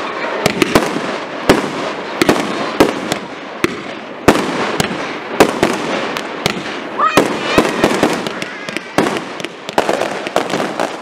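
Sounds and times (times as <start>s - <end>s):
firework bangs: 0.0s - 11.0s
firework hiss and crackle: 0.0s - 11.0s.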